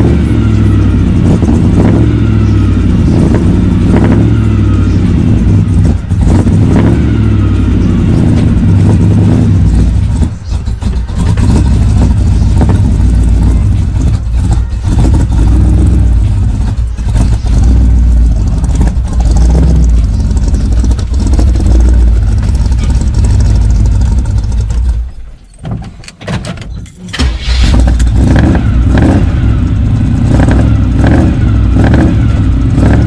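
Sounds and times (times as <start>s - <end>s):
loud engine revving: 0.0s - 25.1s, 27.2s - 33.0s.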